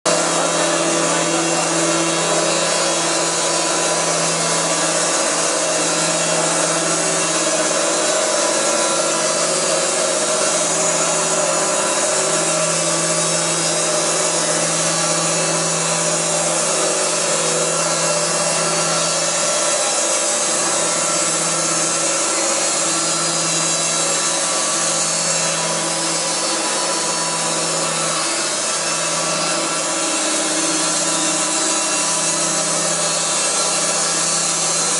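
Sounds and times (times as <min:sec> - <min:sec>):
sawmill machine humming: 0:00.0 - 0:34.9
saw blade rasping through wood: 0:00.1 - 0:34.9.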